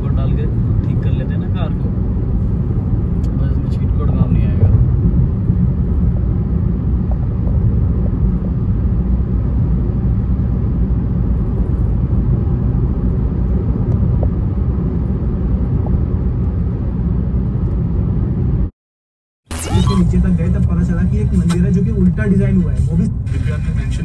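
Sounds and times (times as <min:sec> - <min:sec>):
car road and engine rumble: 0:00.0 - 0:18.7, 0:19.6 - 0:24.0.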